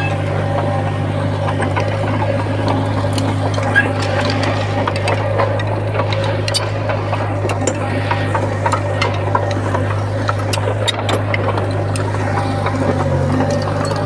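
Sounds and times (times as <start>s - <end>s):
bulldozer diesel engine running: 0.0s - 14.0s
metallic clicks and clanks: 0.0s - 14.0s.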